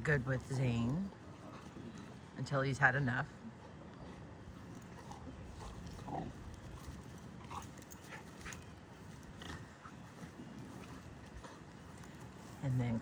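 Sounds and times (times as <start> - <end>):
dogs playing roughly: 0.2 - 2.4, 3.3 - 12.6.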